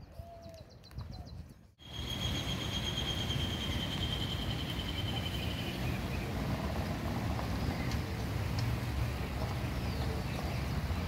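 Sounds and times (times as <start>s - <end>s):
steady rushing noise: 1.8s - 11.0s.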